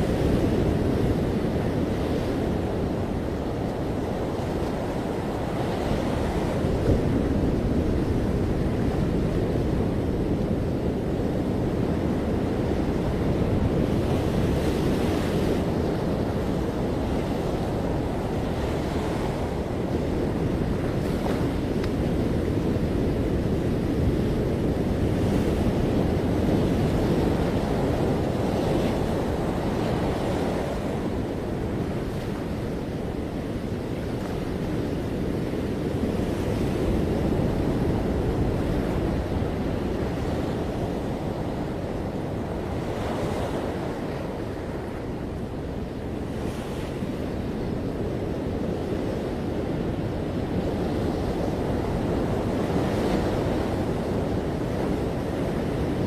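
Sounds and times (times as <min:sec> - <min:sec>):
ocean waves breaking: 0:00.0 - 0:56.0
wind on microphone: 0:00.0 - 0:56.0.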